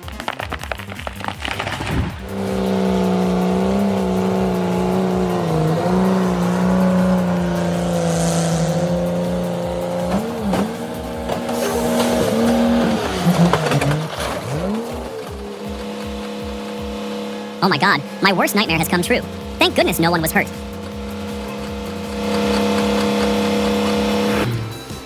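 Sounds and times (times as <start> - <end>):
chainsaw engine high revs: 2.2 - 18.2, 19.2 - 19.8, 20.5 - 25.0.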